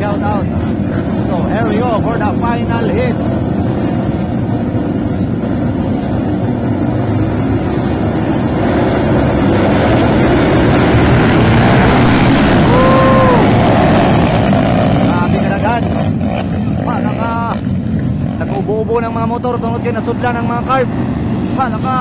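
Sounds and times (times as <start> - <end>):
motorcycles revving: 0.0 - 22.0.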